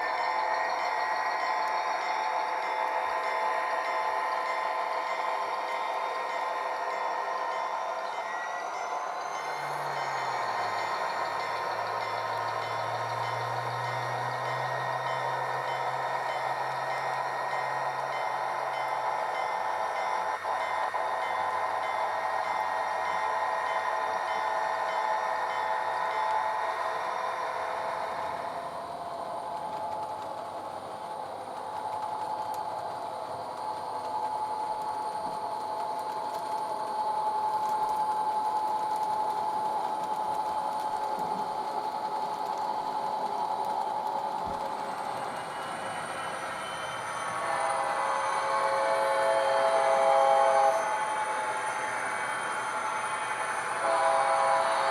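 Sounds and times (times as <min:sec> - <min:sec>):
model train motors whining: 0:00.0 - 0:54.9.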